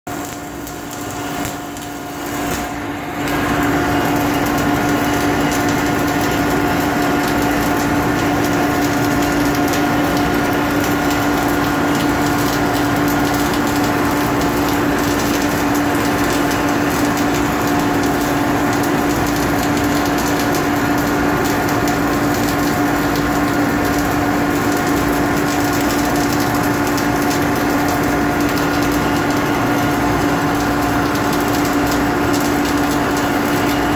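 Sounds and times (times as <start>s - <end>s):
machine hum: 0.1s - 33.9s
welding arc crackling: 0.1s - 33.9s.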